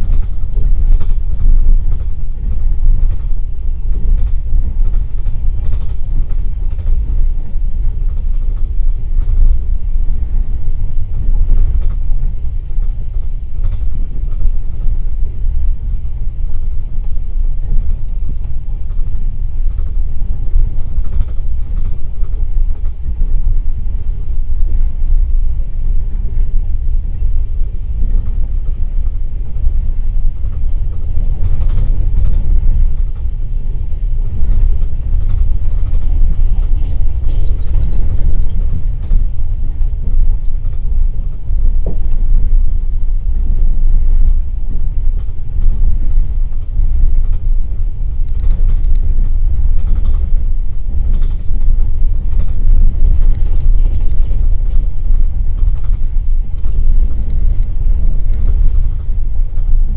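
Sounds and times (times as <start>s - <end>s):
rail clicks: 0.0s - 59.9s
train wheels rumbling on rails: 0.0s - 59.9s.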